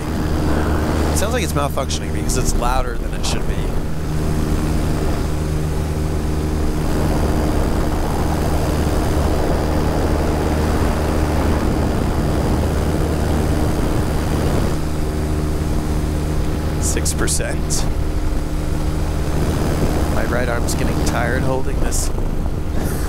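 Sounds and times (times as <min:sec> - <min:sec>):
air rushing: 0:00.0 - 0:23.0
electric motor and propeller hum: 0:00.0 - 0:23.0.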